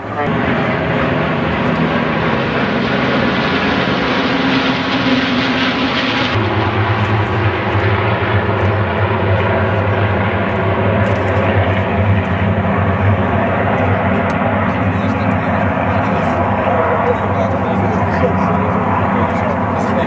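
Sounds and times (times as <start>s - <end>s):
piston aircraft engines droning: 0.0s - 20.0s.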